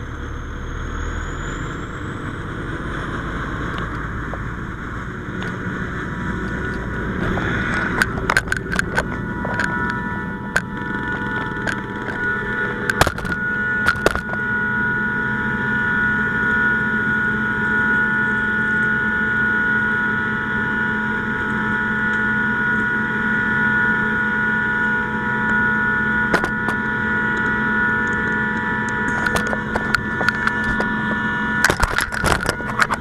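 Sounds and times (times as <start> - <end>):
fire engine pump whine: 0.0 - 33.0.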